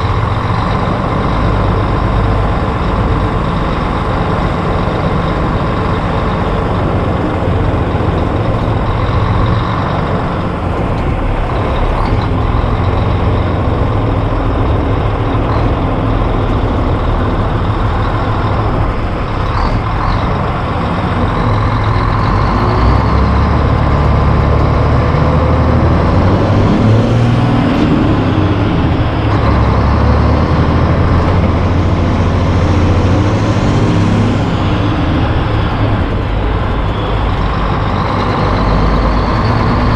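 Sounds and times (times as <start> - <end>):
diesel truck engine shifting gears: 0.0 - 39.9.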